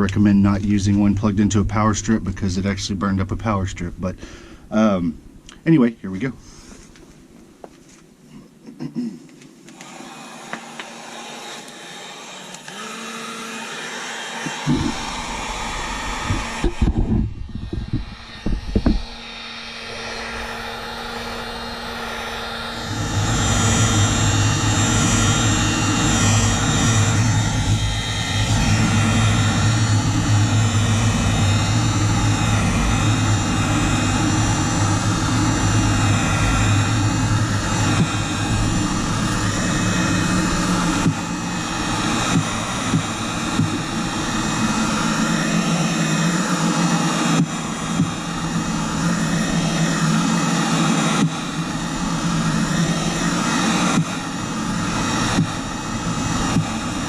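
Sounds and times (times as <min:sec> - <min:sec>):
heat gun fan whirring: 0:00.0 - 0:08.2, 0:09.4 - 0:57.0.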